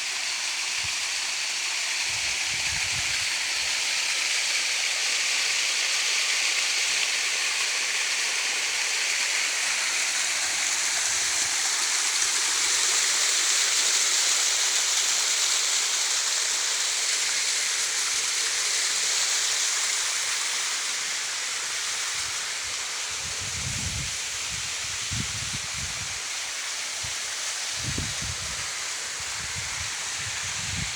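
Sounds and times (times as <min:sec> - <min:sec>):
rushing falling water: 0:00.0 - 0:30.9.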